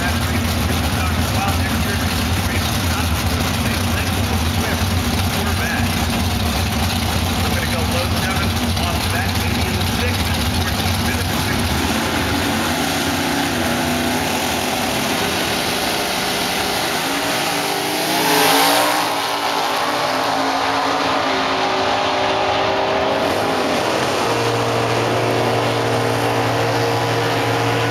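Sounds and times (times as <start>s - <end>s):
drag race cars launching: 0.0s - 27.9s
steady engine drone: 0.0s - 27.9s.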